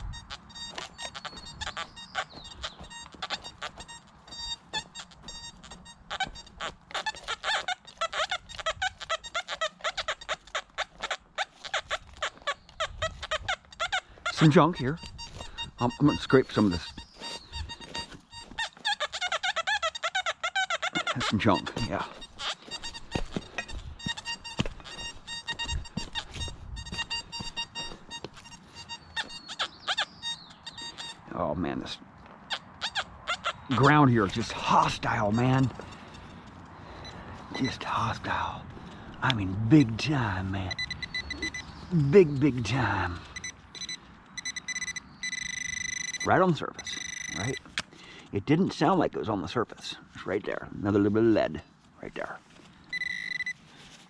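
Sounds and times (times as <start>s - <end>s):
metal detector beeps: 0.0s - 31.4s, 33.7s - 38.6s, 39.2s - 47.7s, 52.9s - 53.6s.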